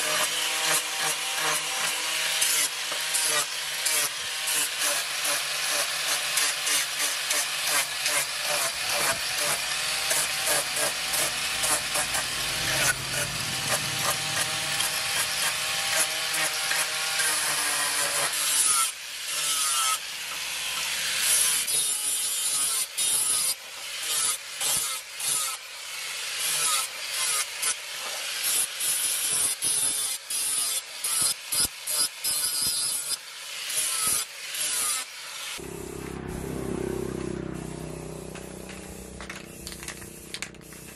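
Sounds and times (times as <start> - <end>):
angle grinder sanding wood: 0.0 - 36.5, 37.1 - 40.9.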